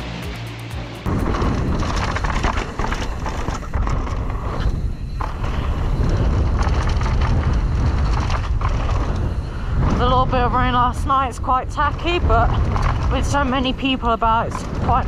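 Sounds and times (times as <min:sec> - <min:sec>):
tyres rumbling on dirt: 0:00.0 - 0:15.0
bike rattling over bumps: 0:00.8 - 0:15.0
wind on microphone: 0:01.0 - 0:15.0.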